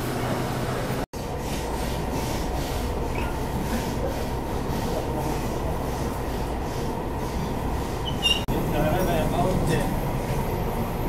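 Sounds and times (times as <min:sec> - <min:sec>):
train wheels rumbling on track: 0:02.0 - 0:11.0.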